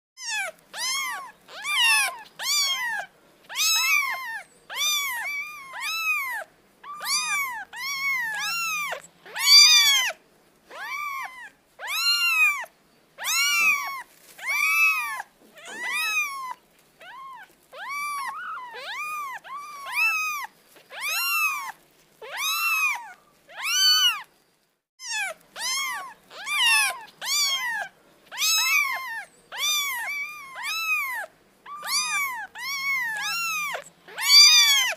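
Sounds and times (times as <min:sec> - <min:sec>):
kitten meowing: 0:00.2 - 0:24.3, 0:25.0 - 0:34.9.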